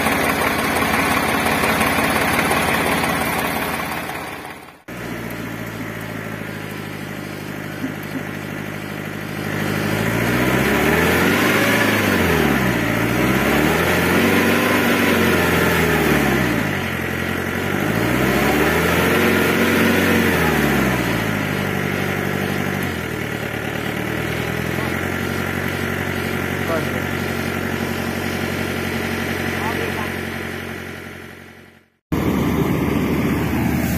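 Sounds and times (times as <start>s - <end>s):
loader engine idling and revving: 0.0s - 33.9s.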